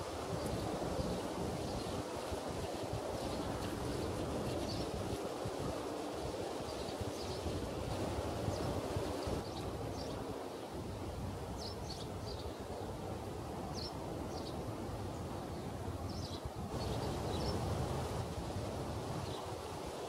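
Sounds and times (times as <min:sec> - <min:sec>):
wind in tree leaves: 0:00.0 - 0:20.0.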